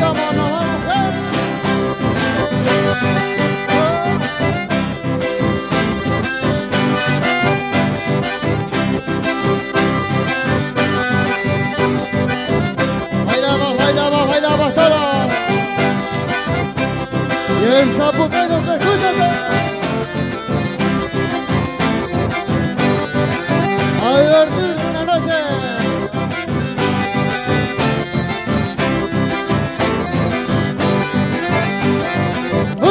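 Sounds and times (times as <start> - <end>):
folk band accordions and guitar: 0.0 - 32.9.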